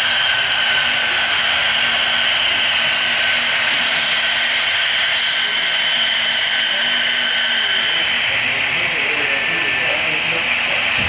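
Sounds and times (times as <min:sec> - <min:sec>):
model train whirring: 0:00.0 - 0:11.0.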